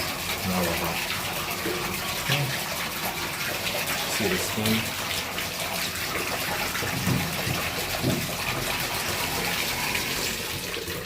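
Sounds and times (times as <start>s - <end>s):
shower water running: 0.0s - 11.0s.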